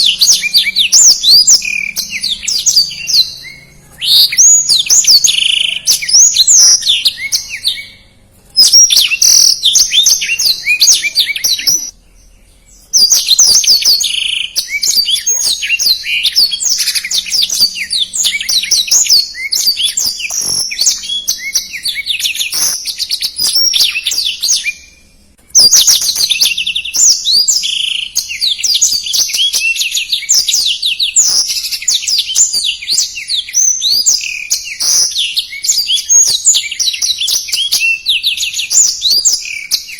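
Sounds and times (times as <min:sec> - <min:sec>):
canary warbling song: 0:00.0 - 0:39.9.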